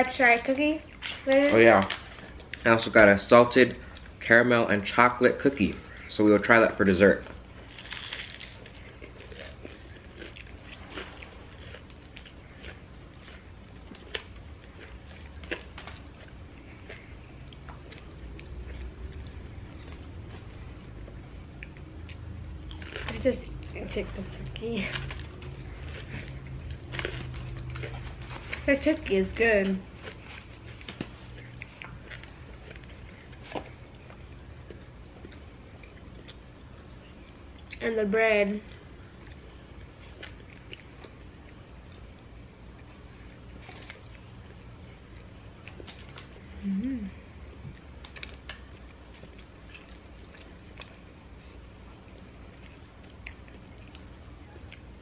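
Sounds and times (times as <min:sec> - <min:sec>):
low steady hum: 0:00.0 - 0:55.0
people chewing and crunching food: 0:00.0 - 0:55.0.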